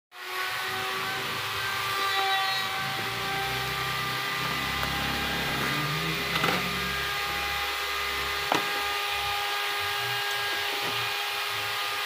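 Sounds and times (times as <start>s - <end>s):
steady mechanical whine: 0.9s - 11.9s.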